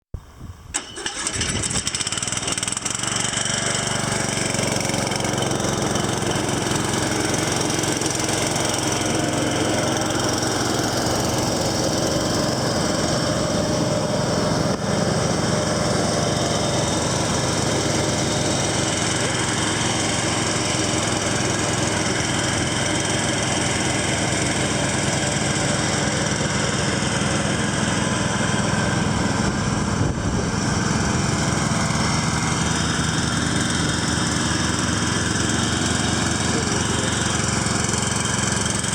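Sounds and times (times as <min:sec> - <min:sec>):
lawn tractor engine running: 0:00.6 - 0:38.9.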